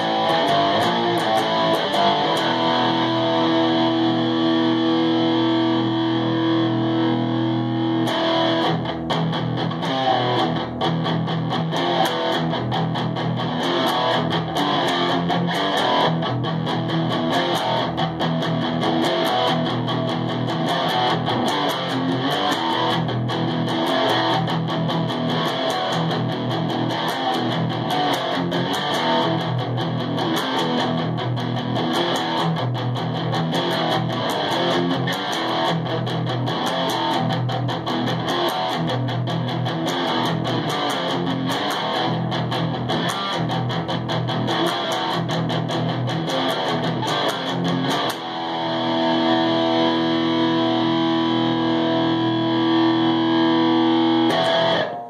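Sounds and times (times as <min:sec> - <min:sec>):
electric guitar strumming: 0:00.0 - 0:55.0.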